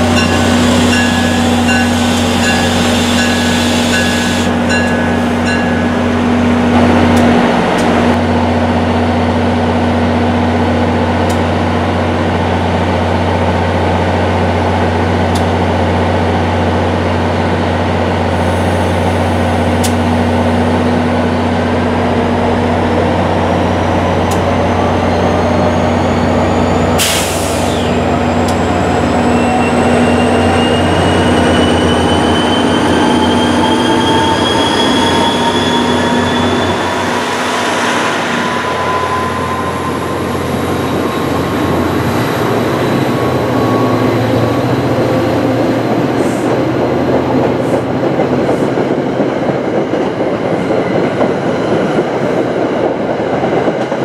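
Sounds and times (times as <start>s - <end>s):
diesel locomotive engine humming: 0.0s - 54.0s
rising whine of departing train: 0.0s - 54.0s.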